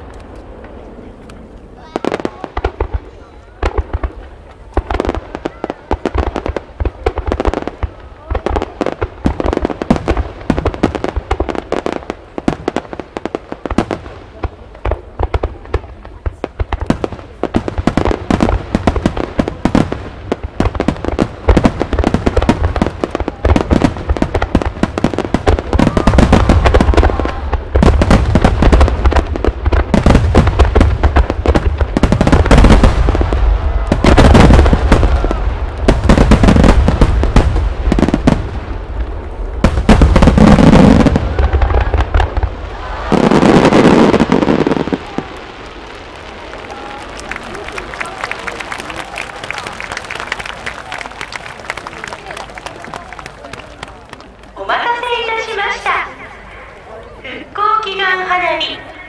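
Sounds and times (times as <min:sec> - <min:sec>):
fireworks bursting with booms: 0:00.0 - 0:56.1.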